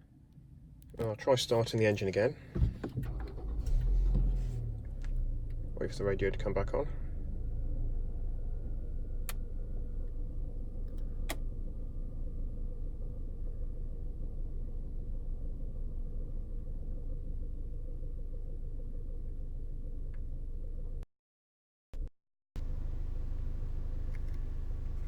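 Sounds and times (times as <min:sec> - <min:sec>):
car engine idling: 0:01.5 - 0:21.0, 0:22.6 - 0:25.0.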